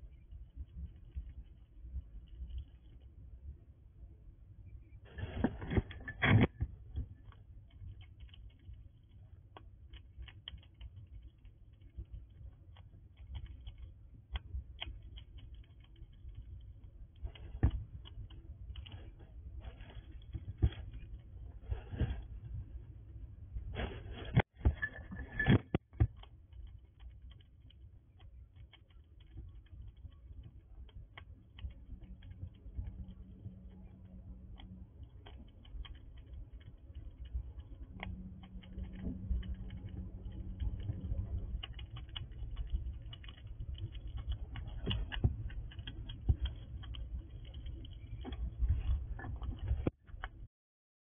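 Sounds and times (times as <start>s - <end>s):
squirrel chewing crunches: 4.8s - 22.6s, 25.8s - 50.2s.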